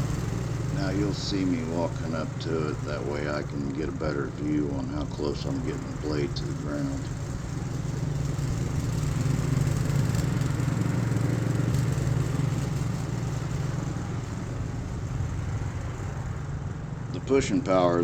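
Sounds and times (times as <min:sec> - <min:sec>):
lawnmower engine running: 0:00.0 - 0:18.0.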